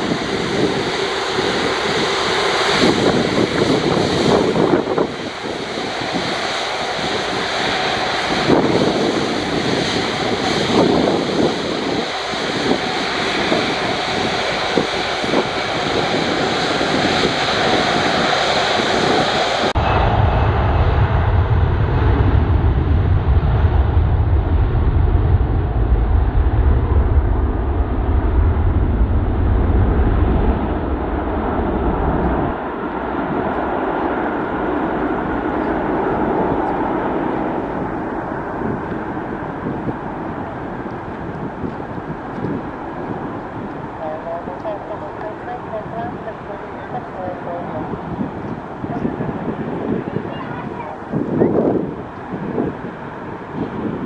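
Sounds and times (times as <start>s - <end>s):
jet engine whine while taxiing: 0.0s - 54.0s
jet engines rumbling at takeoff: 0.0s - 54.0s.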